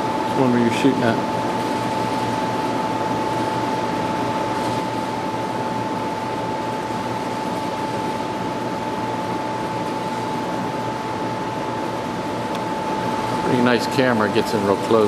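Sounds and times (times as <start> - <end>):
constant mid-pitched whine: 0.0 - 15.0.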